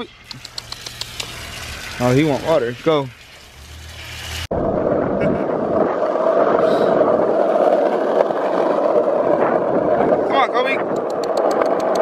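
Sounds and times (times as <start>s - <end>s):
wheels rolling over rough asphalt: 0.0s - 12.0s.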